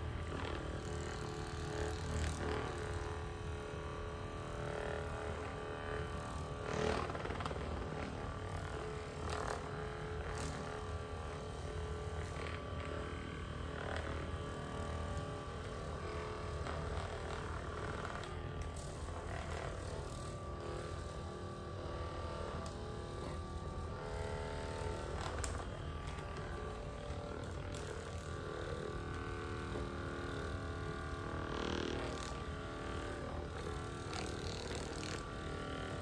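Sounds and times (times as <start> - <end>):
massage gun motor hum: 0.0 - 36.0.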